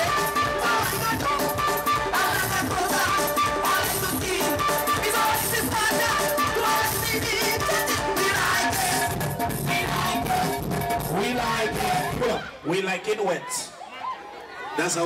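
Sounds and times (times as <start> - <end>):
soca music with singing: 0.0 - 12.8.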